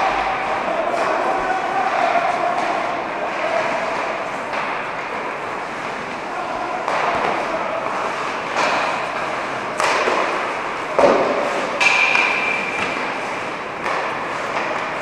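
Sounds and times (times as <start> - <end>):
hockey pucks and sticks knocking: 0.0 - 15.0
skates on ice: 0.0 - 15.0.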